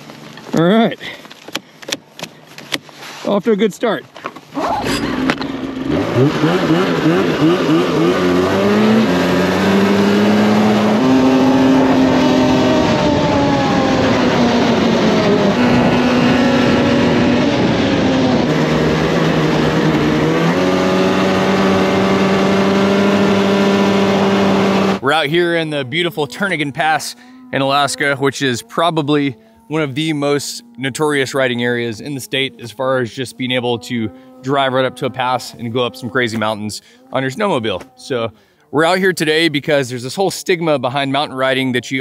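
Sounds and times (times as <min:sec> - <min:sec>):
snowmobile engine revving: 0:04.6 - 0:42.0.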